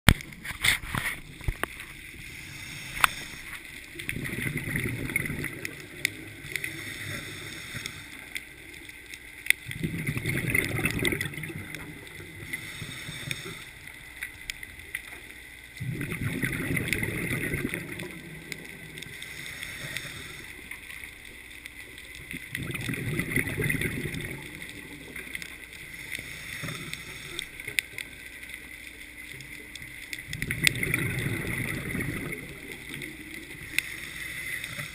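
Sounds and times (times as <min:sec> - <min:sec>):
underwater breath bubbling: 0:00.1 - 0:28.3, 0:30.2 - 0:34.9
faint clicks: 0:00.1 - 0:34.9.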